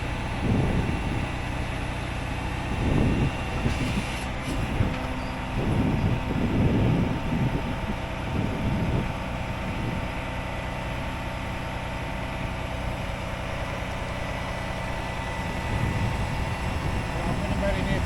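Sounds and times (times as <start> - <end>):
tow truck engine running: 0.0 - 18.0.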